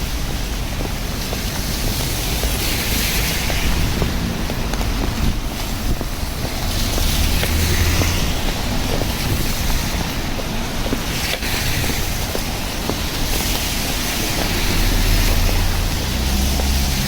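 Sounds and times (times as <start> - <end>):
low vehicle rumble: 0.0 - 17.0
rain on a street: 0.0 - 17.0.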